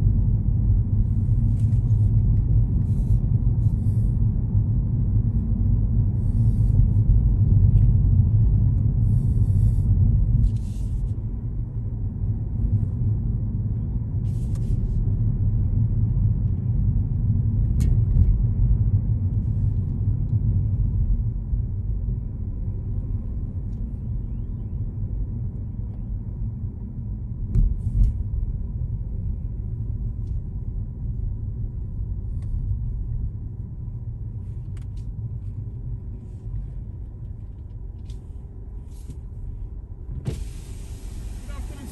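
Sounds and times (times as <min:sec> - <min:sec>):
car engine and tyre noise: 0:00.0 - 0:41.9.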